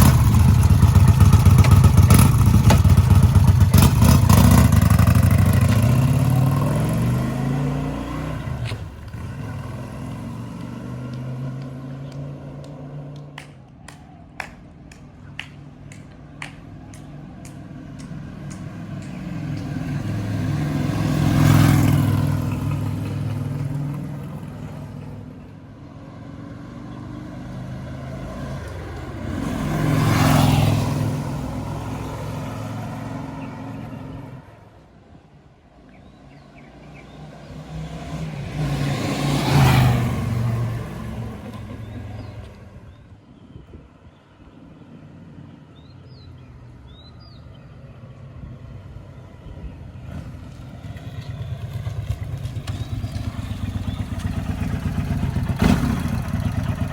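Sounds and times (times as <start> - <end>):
motorcycles passing by: 0.0 - 35.1, 36.0 - 56.9.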